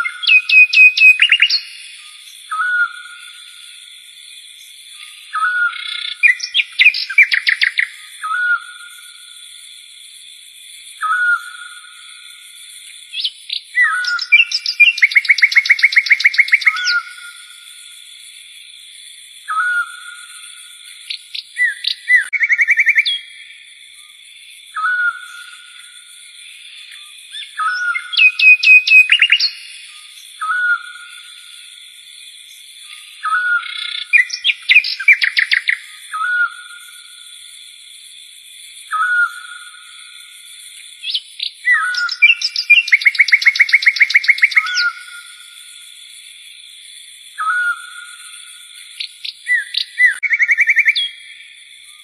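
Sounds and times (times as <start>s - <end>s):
songbird singing: 0.0s - 52.0s.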